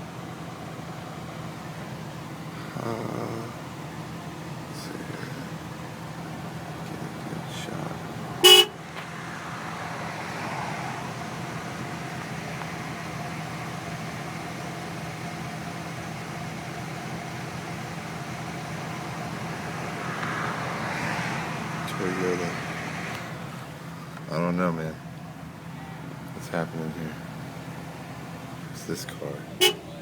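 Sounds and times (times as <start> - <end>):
freeway traffic noise: 0.0 - 30.0.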